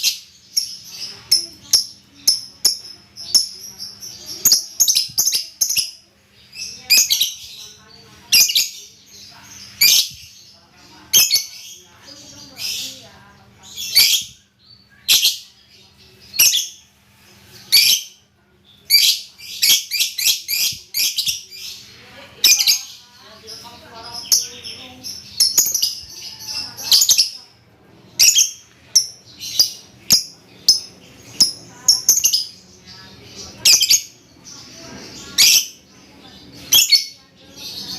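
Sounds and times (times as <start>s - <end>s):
songbird chirping: 0.0s - 37.9s.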